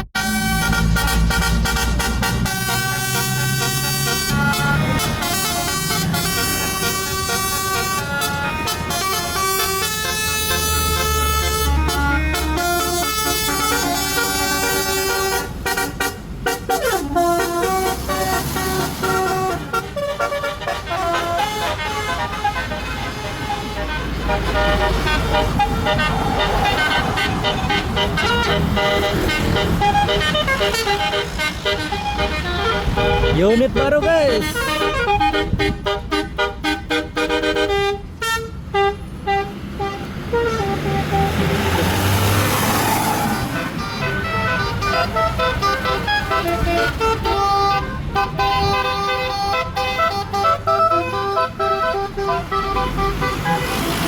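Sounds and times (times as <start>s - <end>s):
multi-tone musical bus horn: 0.0s - 54.0s.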